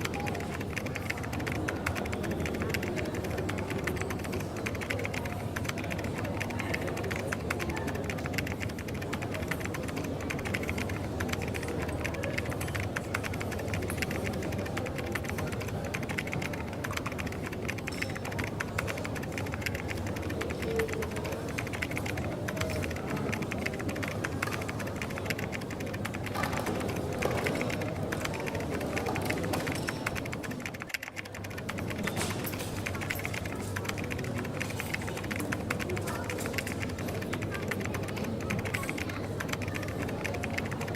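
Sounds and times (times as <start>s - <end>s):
small clicks and clatter: 0.0s - 40.9s.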